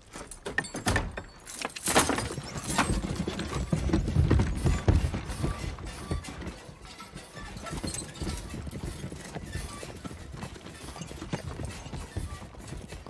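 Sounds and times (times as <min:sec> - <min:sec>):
hooves clip-clopping on dirt: 0:00.0 - 0:13.0
wagon wheels rattling and knocking: 0:00.0 - 0:13.0.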